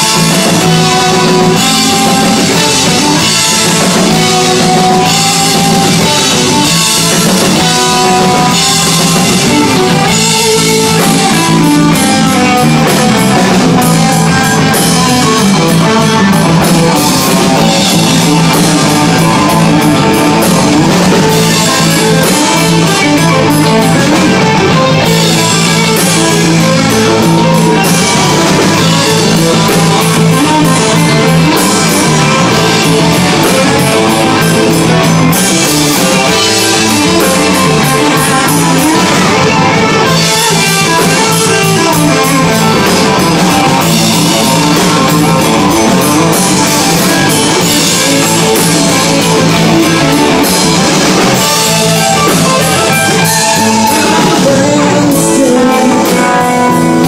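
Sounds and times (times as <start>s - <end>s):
drum kit: 0.0s - 57.0s
electric guitars: 0.0s - 57.0s
low bass line: 0.0s - 57.0s.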